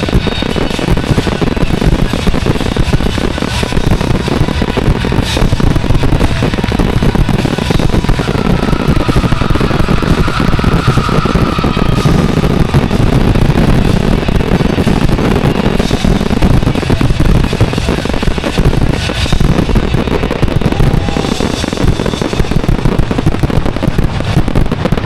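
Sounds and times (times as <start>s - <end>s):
firework whistle: 0.0s - 25.0s
fireworks bangs and crackles: 0.0s - 25.0s.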